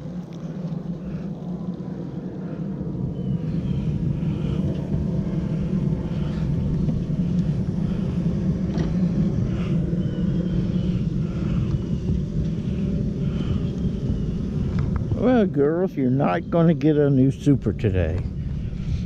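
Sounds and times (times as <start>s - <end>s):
honeybees buzzing: 0.0s - 17.6s.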